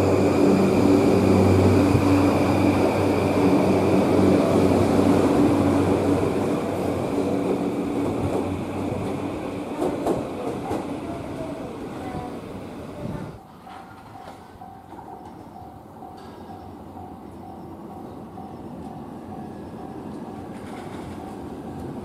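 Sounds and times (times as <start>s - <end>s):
electric train humming and whining: 0.0s - 22.0s.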